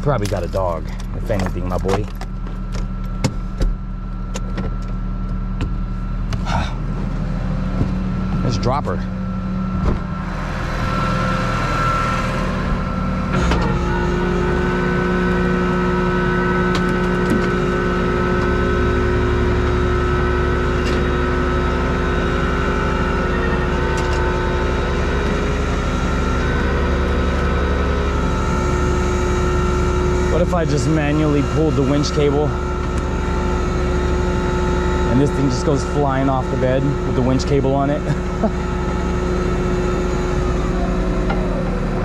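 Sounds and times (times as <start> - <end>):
hydraulic whine: 0.0 - 42.0
truck engine rumble: 0.0 - 42.0.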